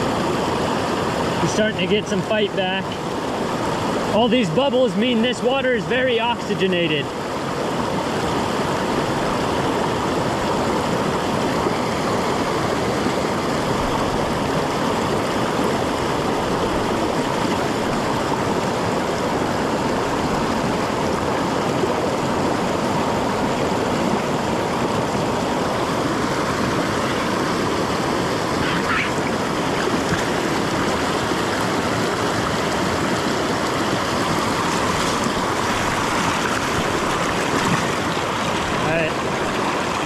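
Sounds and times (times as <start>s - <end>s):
bubbling creek water rushing: 0.0s - 40.0s.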